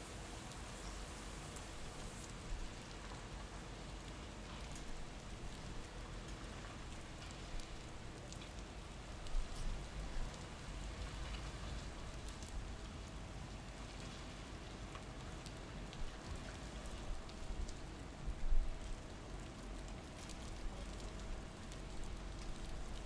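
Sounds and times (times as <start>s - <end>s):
water dripping onto wet surfaces: 0.4s - 23.0s.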